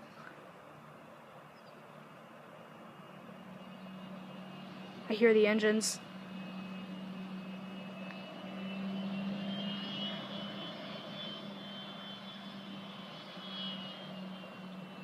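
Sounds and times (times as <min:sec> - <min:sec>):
distant jet engines whining: 0:00.0 - 0:15.0.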